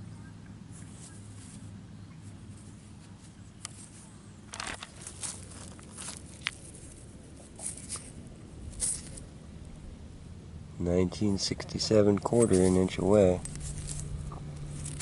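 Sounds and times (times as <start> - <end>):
low steady rumble: 0.0 - 15.0
gravel crunching by hand: 0.7 - 10.0, 10.7 - 15.0.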